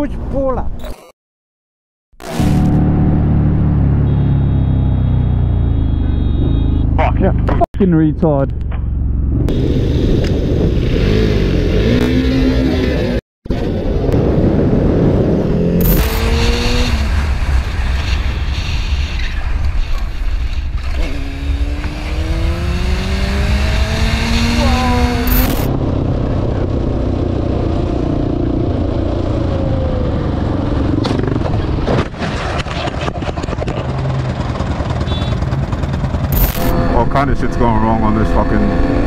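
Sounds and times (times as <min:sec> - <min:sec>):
motorcycle engine revving: 0:02.2 - 0:07.6, 0:08.5 - 0:18.1, 0:20.8 - 0:31.9, 0:32.6 - 0:39.0
road noise: 0:02.2 - 0:39.0.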